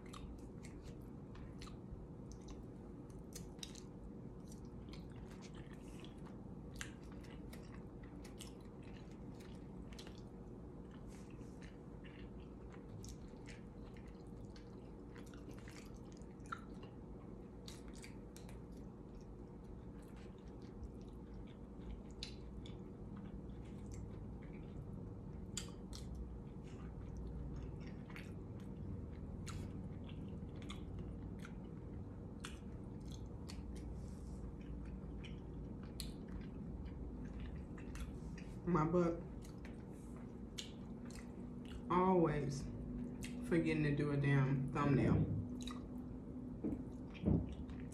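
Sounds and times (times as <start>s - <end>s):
person chewing: 0.0s - 38.6s, 39.2s - 41.9s, 43.0s - 43.4s, 45.5s - 47.9s
low room hum: 0.0s - 47.9s.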